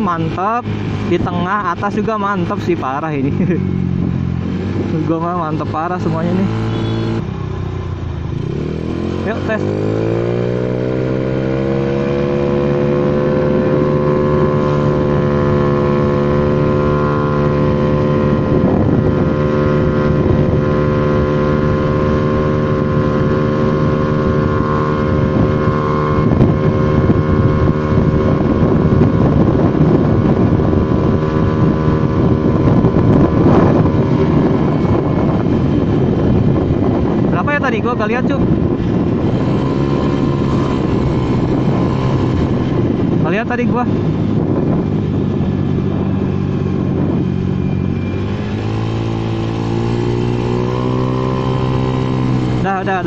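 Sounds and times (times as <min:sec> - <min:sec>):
scooter engine at full throttle: 0:00.0 - 0:53.0
wind noise on microphone: 0:00.0 - 0:53.0.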